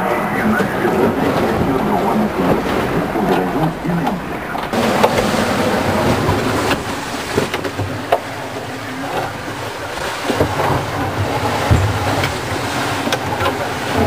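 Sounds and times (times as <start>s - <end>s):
hull and rigging knocks: 0.0s - 14.0s
rushing sea water: 0.0s - 14.0s
wind: 0.0s - 14.0s.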